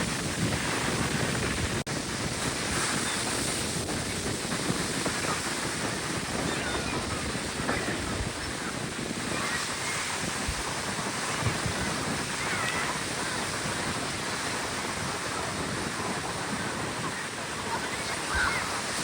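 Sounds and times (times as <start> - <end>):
surf breaking on beach: 0.0 - 19.0
wind buffeting microphone: 0.0 - 19.0
faint distant voices: 2.7 - 19.0.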